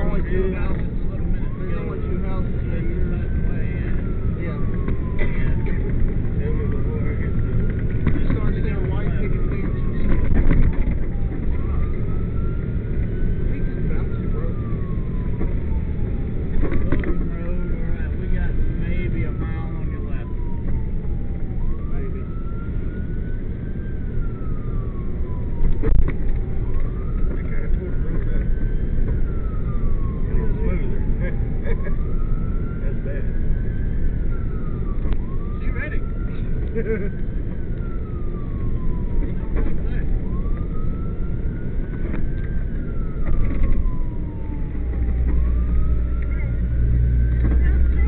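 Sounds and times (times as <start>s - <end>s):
fire truck siren wailing: 0.0s - 48.0s
road noise: 0.0s - 48.0s
truck engine rumble: 0.0s - 48.0s.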